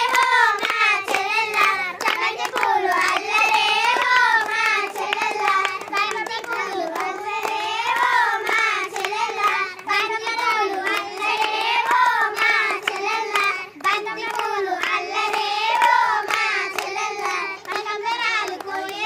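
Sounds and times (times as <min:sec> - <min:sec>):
girls singing in unison: 0:00.0 - 0:19.0
hands clapping to a beat: 0:00.0 - 0:19.0.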